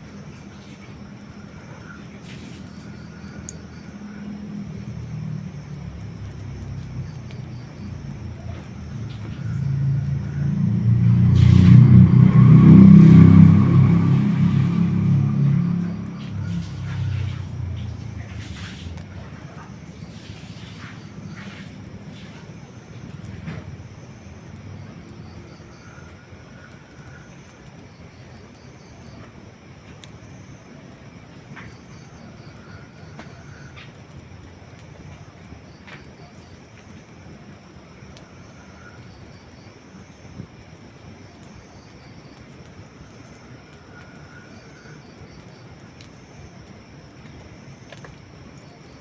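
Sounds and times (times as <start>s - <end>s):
campfire rumbling: 0.0s - 49.0s
fire snaps and pops: 0.0s - 49.0s.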